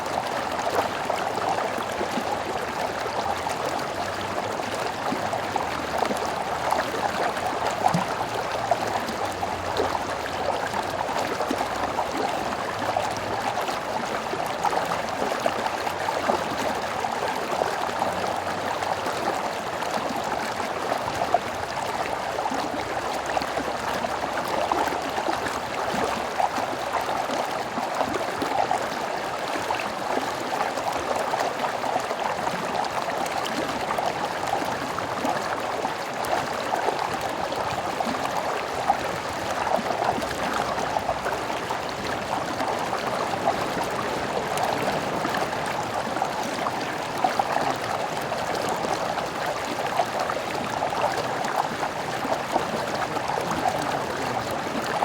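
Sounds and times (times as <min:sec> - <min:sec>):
stream water gurgling over rocks: 0:00.0 - 0:55.0.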